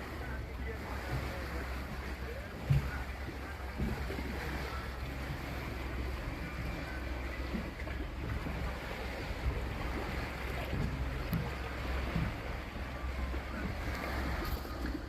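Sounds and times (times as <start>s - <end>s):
motorboat engine drone: 0.0s - 15.0s
rushing water: 0.0s - 15.0s
wind buffeting microphone: 0.0s - 15.0s.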